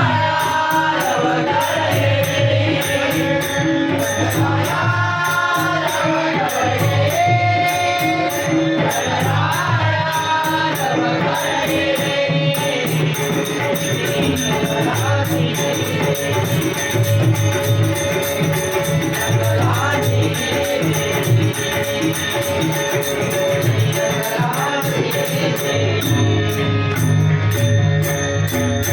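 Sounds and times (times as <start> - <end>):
chorus singing: 0.0 - 27.6.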